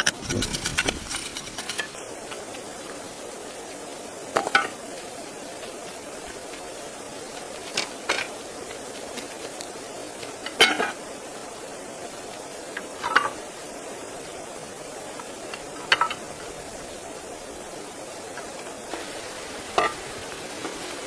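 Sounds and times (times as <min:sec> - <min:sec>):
food sizzling in a pan: 0:00.6 - 0:21.0.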